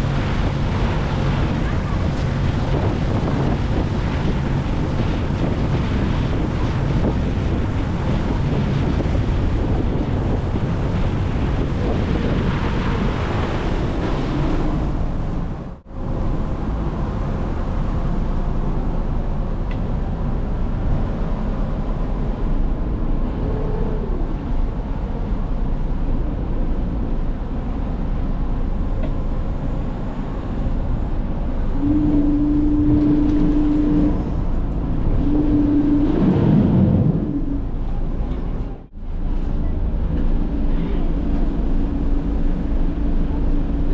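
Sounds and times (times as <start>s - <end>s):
ferry engine running: 0.0s - 43.9s
water rushing: 0.0s - 43.9s
wind noise on microphone: 0.0s - 43.9s.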